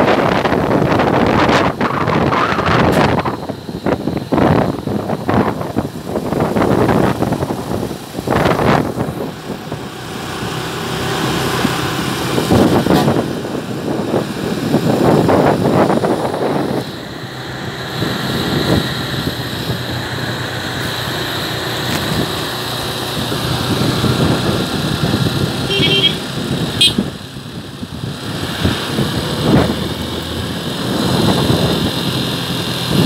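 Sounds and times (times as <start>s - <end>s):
motorcycle engine running: 0.0s - 33.0s
rushing wind noise: 0.0s - 33.0s.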